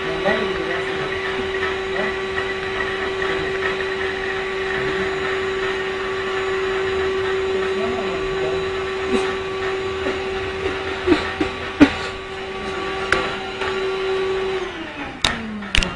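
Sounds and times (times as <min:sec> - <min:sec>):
vacuum cleaner running: 0:00.0 - 0:15.9.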